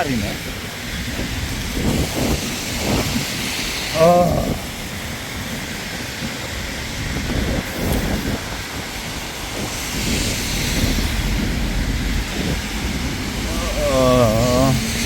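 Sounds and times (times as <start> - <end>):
heavy rain on an umbrella: 0.0 - 15.0
low traffic rumble: 0.0 - 15.0
vehicle passing on wet road: 0.1 - 15.0.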